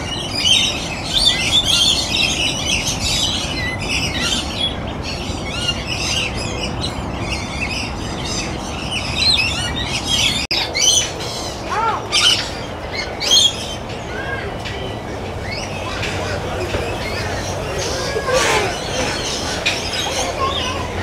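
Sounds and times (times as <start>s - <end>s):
flock of birds chirping: 0.0s - 21.0s.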